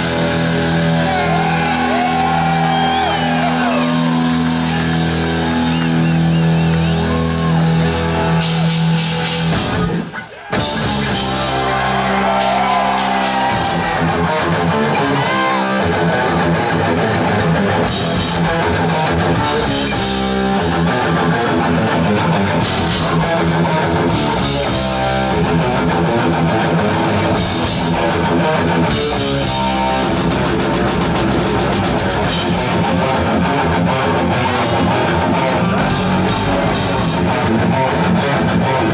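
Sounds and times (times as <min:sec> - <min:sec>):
drum kit: 0:00.0 - 0:15.0, 0:16.0 - 0:33.8, 0:34.6 - 0:38.9
bass guitar: 0:00.0 - 0:38.9
distorted electric guitars: 0:00.0 - 0:38.9.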